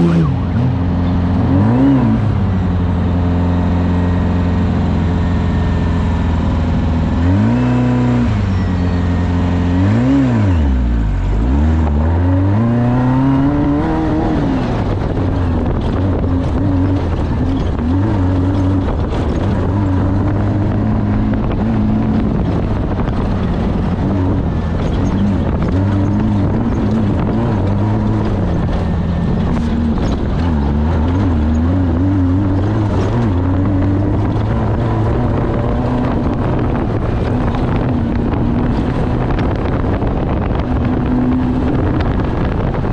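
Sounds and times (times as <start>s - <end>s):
engine revving: 0.0s - 42.9s.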